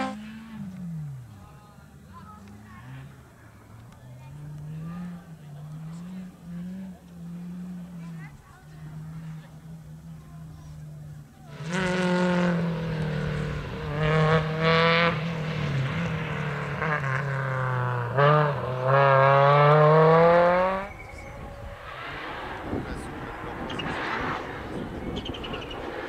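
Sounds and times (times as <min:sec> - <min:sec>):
rally car engine revving: 0:02.1 - 0:26.0.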